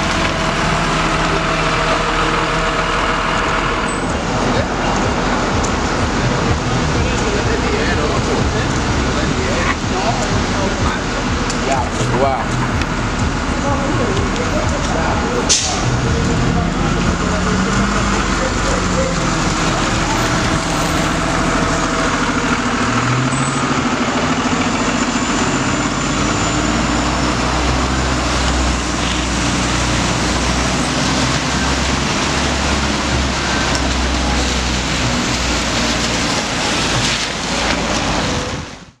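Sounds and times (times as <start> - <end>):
bus engine low rumble: 0.0 - 39.0
traffic on wet street: 0.0 - 39.0.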